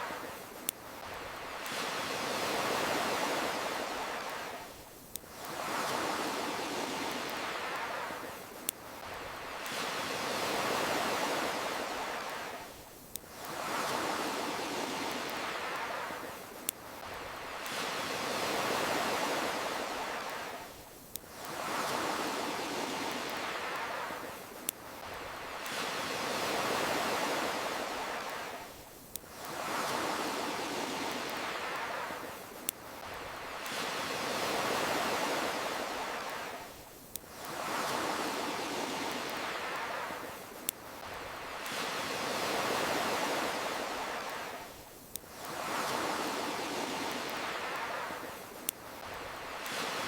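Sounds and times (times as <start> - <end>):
campfire crackles: 0.0 - 50.0
ocean waves washing in: 0.0 - 50.0.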